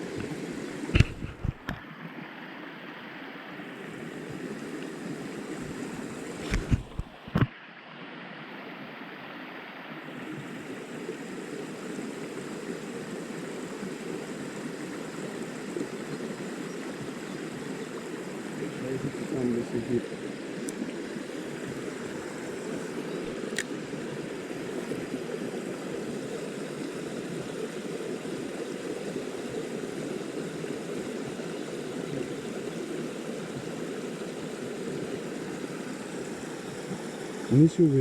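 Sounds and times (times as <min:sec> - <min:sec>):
stream water running: 0:00.0 - 0:38.0.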